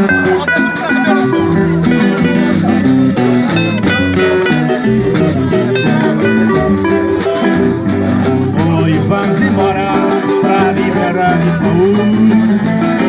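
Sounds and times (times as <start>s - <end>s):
plucked acoustic guitars: 0.0s - 13.0s.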